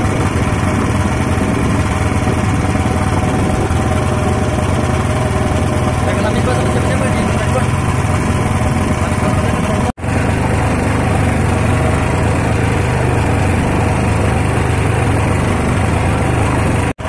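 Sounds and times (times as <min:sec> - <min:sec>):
boat motor running: 0:00.0 - 0:17.0
water rushing along hull: 0:00.0 - 0:17.0.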